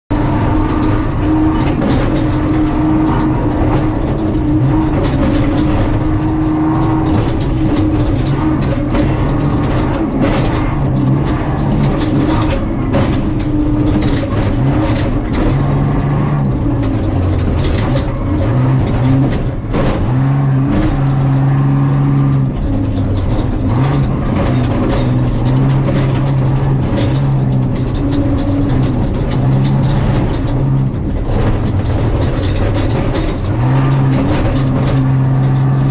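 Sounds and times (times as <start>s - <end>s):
engine running hard: 0.0s - 35.9s
truck rattling over rough dirt: 0.0s - 35.9s.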